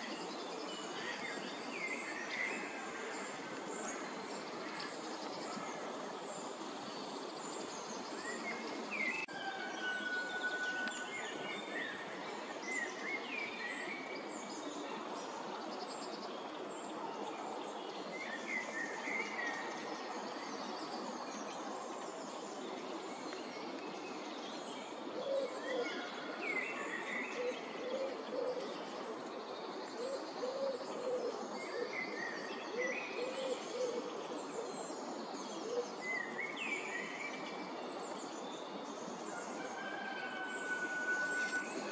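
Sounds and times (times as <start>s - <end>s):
outdoor background hiss: 0.0s - 41.9s.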